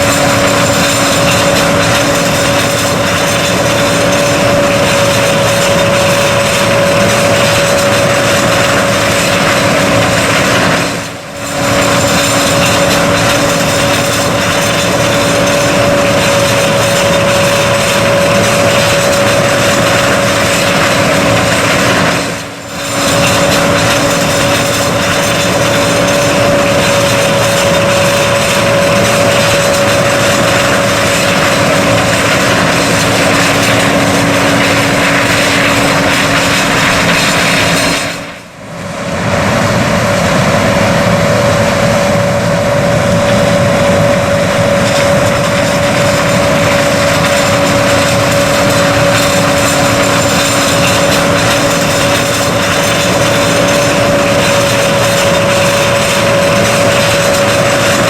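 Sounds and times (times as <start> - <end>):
machinery engine drone: 0.0 - 58.0.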